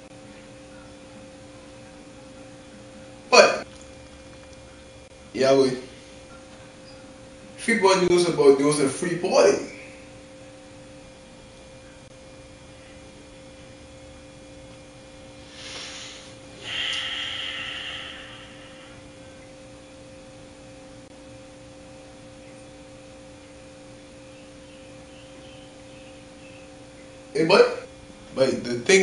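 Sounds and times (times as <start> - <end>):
steady room hum: 0.0 - 29.0.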